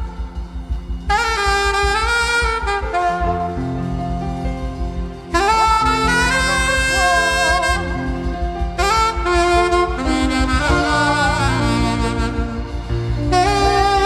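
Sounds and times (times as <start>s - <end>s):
gliding lead melody with vibrato: 0.0s - 14.0s
steady bass pulse: 0.0s - 14.0s
sustained keyboard chords: 0.0s - 14.0s.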